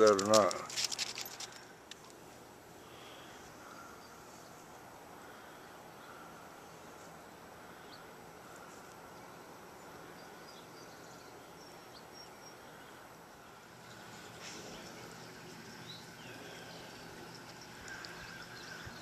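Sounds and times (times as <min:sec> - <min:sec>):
steady low hiss: 0:00.0 - 0:19.0
small birds chirping: 0:02.8 - 0:19.0.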